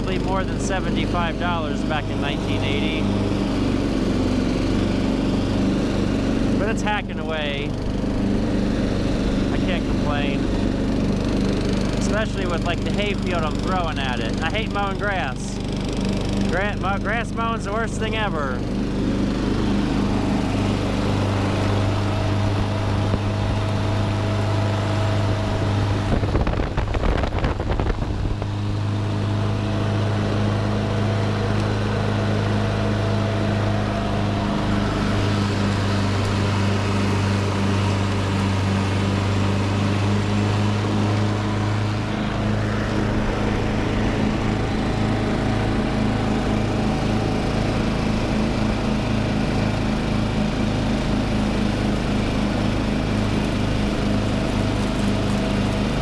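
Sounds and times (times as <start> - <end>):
lawn tractor mowing grass: 0.0 - 56.0.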